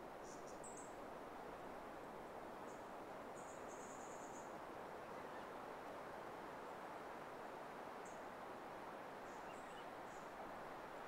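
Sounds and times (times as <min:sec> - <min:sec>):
faint outdoor rushing hiss: 0:00.0 - 0:11.0.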